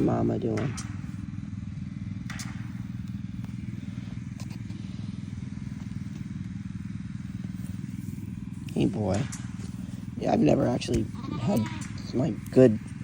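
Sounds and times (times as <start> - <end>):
motor droning: 0.0 - 13.0
rustles: 2.3 - 13.0.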